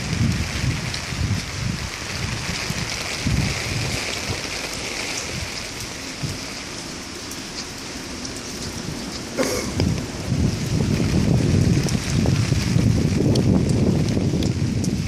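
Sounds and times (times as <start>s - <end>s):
wind buffeting microphone: 0.0s - 6.8s, 8.4s - 15.0s
heavy rain falling: 0.0s - 15.0s.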